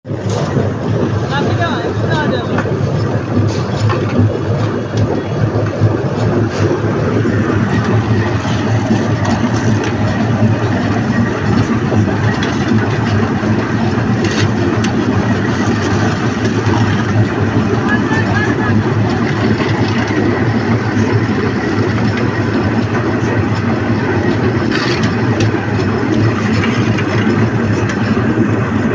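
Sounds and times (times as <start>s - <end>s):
concrete mixer engine throbbing: 0.0s - 28.9s.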